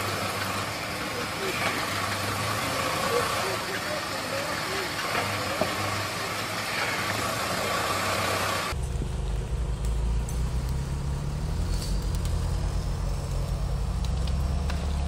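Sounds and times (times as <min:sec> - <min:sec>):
off-road engine running: 0:00.0 - 0:15.0.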